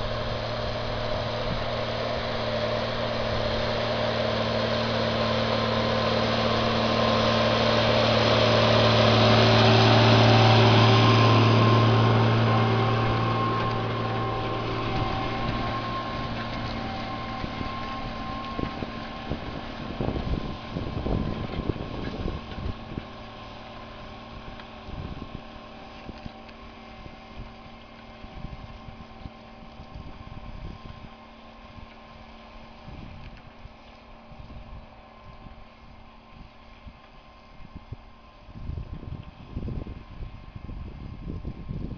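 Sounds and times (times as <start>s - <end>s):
tractor diesel engine under load: 0.0s - 41.9s
wind rumble on microphone: 0.0s - 41.9s.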